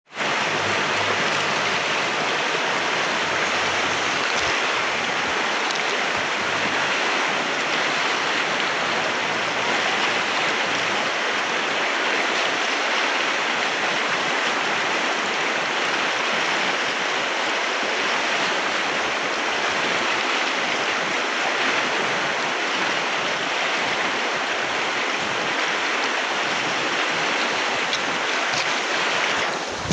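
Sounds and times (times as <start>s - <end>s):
river water rushing: 0.1s - 29.9s.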